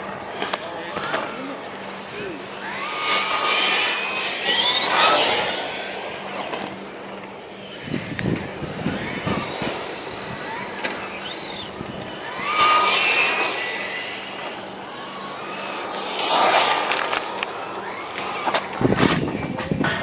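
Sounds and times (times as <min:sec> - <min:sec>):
toy car motors whining: 0:00.0 - 0:19.7.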